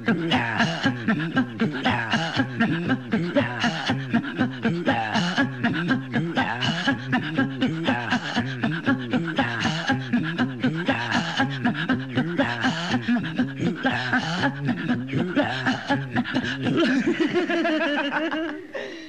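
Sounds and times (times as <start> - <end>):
voice singing pulsing syllables: 0.0 - 17.2.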